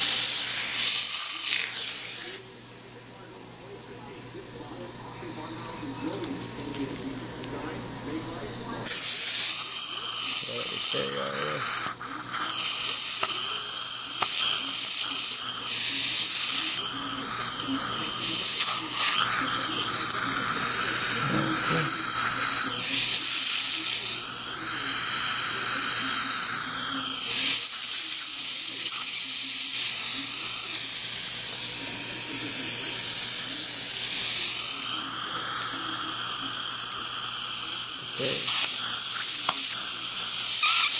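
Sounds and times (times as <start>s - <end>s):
dental suction hissing: 0.0s - 2.5s, 8.8s - 40.9s.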